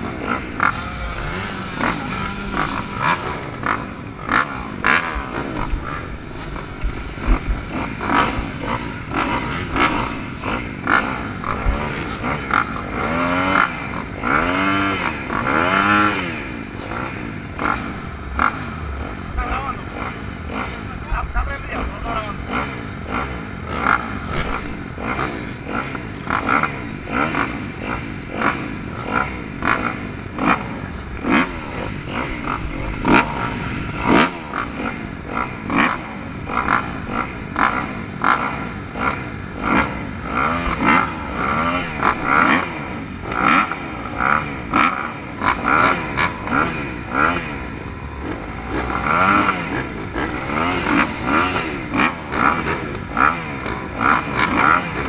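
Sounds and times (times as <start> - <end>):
motocross engines revving: 0.0 - 55.0.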